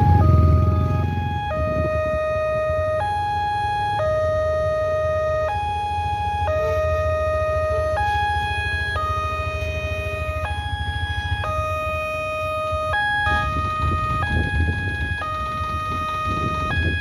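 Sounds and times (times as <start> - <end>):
level-crossing two-tone alarm: 0.0 - 17.0.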